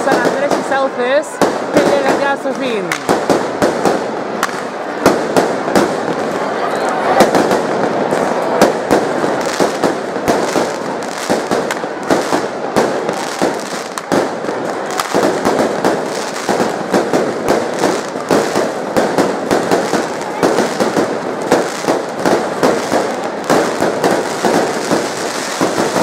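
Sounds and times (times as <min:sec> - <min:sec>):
background noise: 0:00.0 - 0:26.0
fireworks bangs and crackles: 0:00.0 - 0:26.0.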